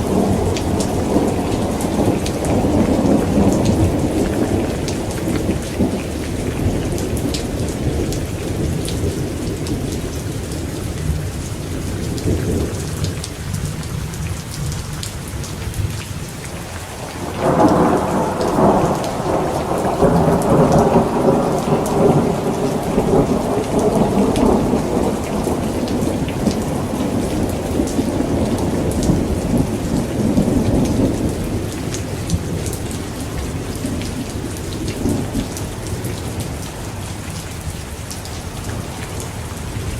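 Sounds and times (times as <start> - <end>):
thunder rumbling: 0.0 - 13.2, 16.6 - 36.6
heavy rain falling: 0.0 - 39.9.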